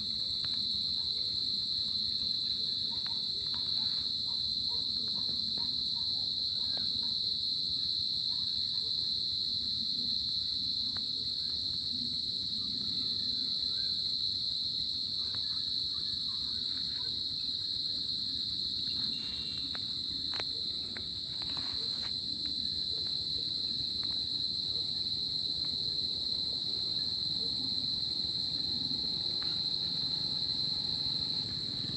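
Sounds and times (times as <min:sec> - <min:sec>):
crickets chirping: 0:00.0 - 0:31.9.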